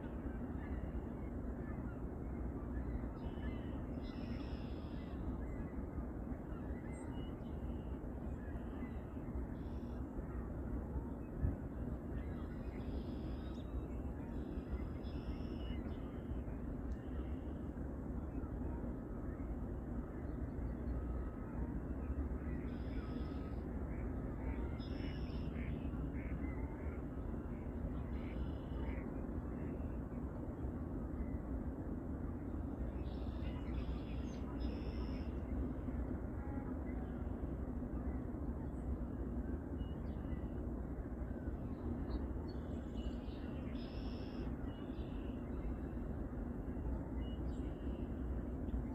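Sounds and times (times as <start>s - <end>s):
low background rumble: 0.0s - 48.9s.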